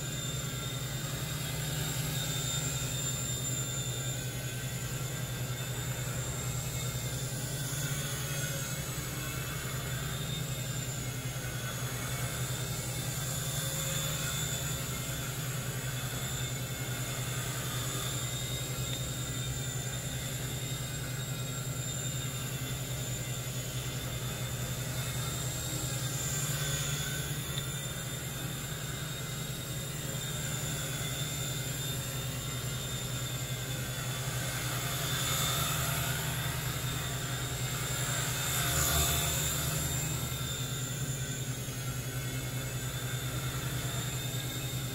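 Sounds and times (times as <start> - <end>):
helicopter rotor whir: 0.0 - 44.9
high electric motor whine: 0.0 - 44.9.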